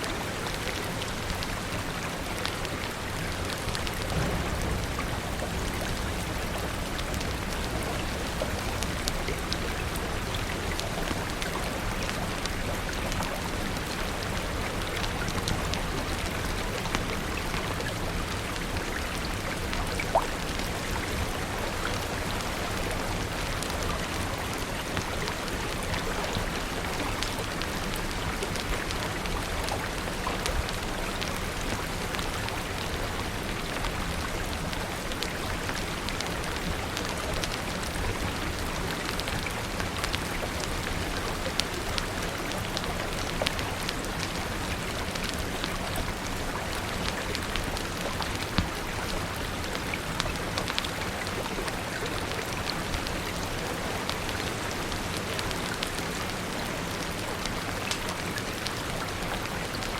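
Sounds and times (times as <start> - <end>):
rain falling: 0.0 - 59.9
wood fire crackling: 0.2 - 59.9.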